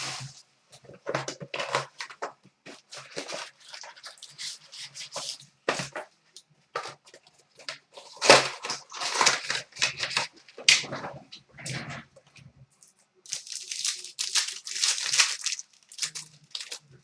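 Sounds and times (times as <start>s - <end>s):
wrappers crinkling and rustling: 0.0s - 6.0s, 6.8s - 11.0s, 13.3s - 17.0s.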